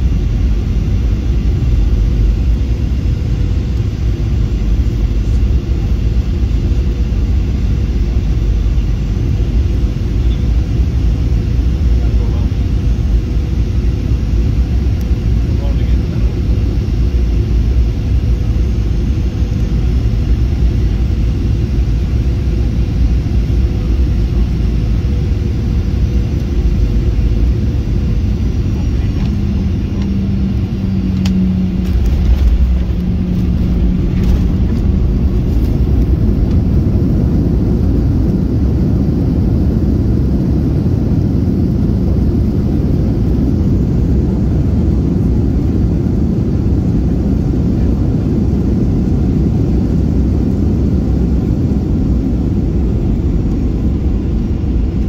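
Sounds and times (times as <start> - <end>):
airplane cabin engine rumble: 0.0 - 55.0
engine hum: 0.0 - 55.0.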